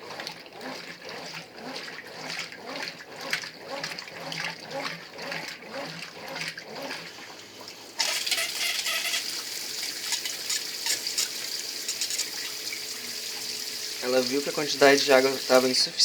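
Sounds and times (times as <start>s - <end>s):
washing machine sloshing: 0.0s - 16.0s
water pouring into tub: 0.0s - 16.0s.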